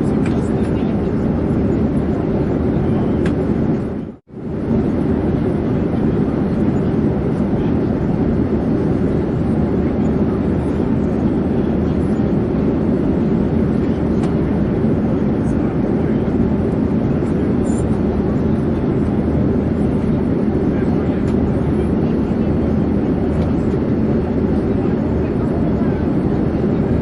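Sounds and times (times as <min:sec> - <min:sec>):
airplane engine noise: 0:00.0 - 0:27.0.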